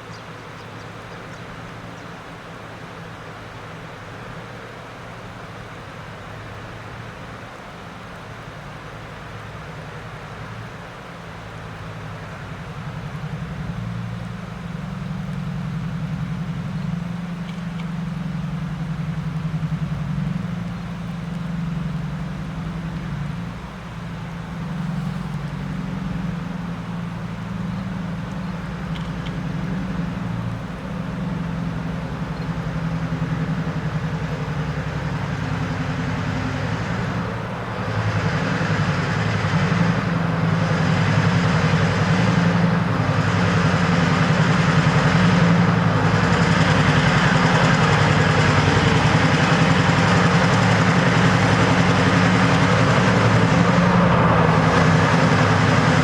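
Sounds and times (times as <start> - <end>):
locomotive diesel engine drone: 0.0 - 56.0.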